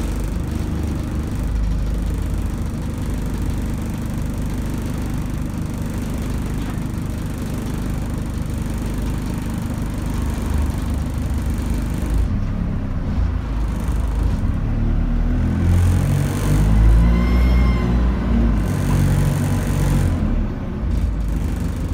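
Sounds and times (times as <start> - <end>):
bus diesel engine: 0.0 - 21.9.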